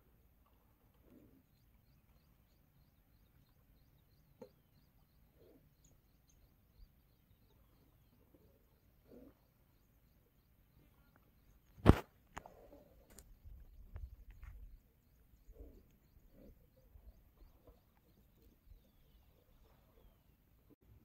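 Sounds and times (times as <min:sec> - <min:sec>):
small bird chirps: 0:01.5 - 0:11.9, 0:13.1 - 0:20.2.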